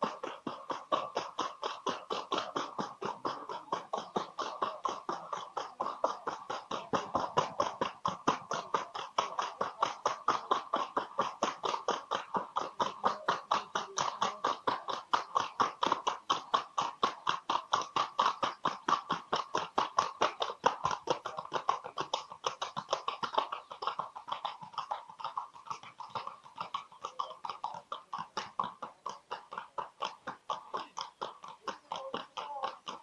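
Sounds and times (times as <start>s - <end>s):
horse hoofbeats: 0.0s - 33.0s.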